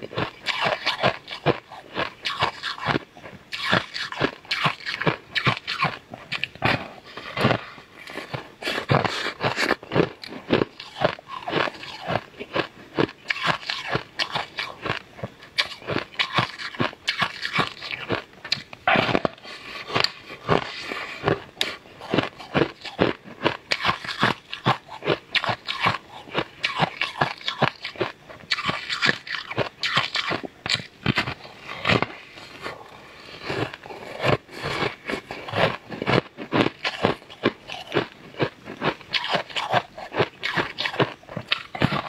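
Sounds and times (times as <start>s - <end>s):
crunchy chewing of hard candy: 0.0s - 42.0s.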